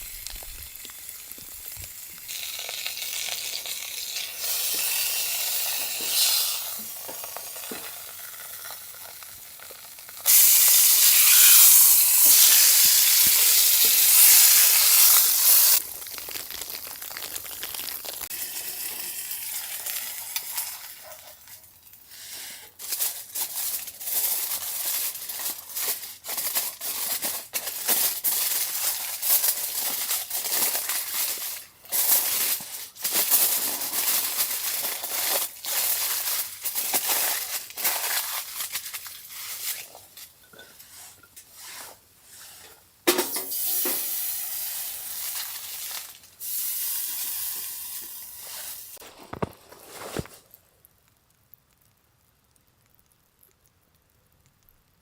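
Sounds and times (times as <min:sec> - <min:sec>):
sharp crackles and clicks: 0:00.0 - 0:22.1, 0:22.7 - 0:40.4, 0:45.0 - 0:55.0
food sizzling in a hot pan: 0:00.0 - 0:49.1.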